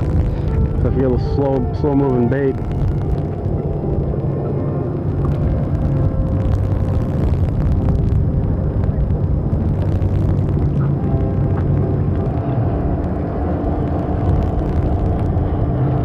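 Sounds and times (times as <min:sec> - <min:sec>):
faint hum: 0:00.0 - 0:16.0
steady low rumble: 0:00.0 - 0:16.0.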